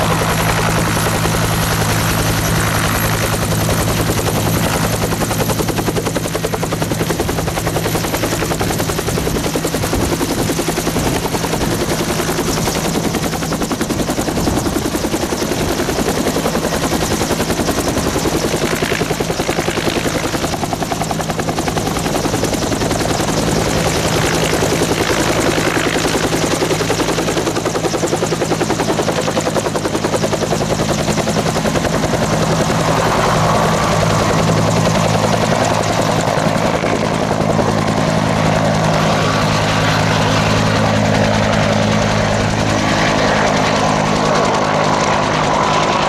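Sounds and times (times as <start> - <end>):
helicopter rotor beating: 0.0 - 46.0.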